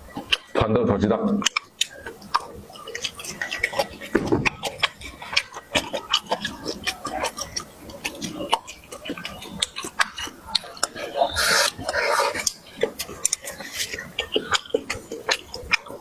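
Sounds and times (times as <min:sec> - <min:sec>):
person chewing food: 0:00.0 - 0:00.6, 0:01.3 - 0:16.0.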